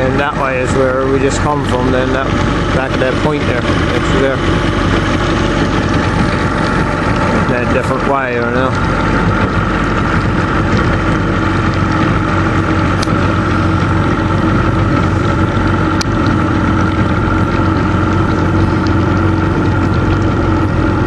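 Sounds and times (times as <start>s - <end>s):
motorboat engine running: 0.0s - 21.0s.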